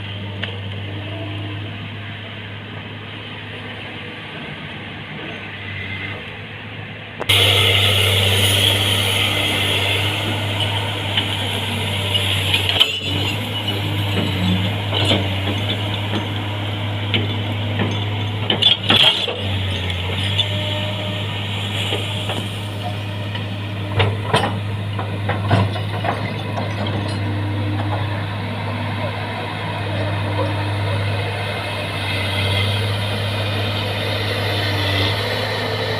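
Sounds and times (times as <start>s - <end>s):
excavator diesel engine humming: 0.0s - 35.9s.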